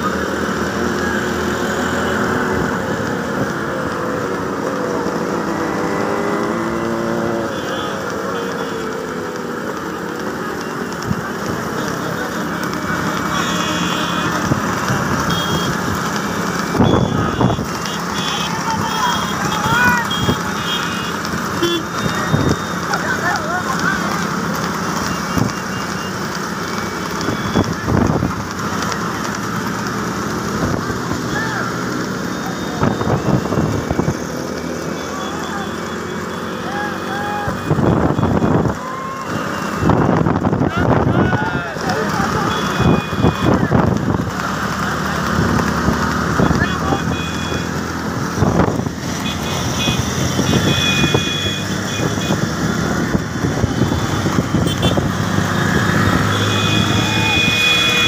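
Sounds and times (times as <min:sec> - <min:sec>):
motorcycle engines droning: 0:00.0 - 0:58.0.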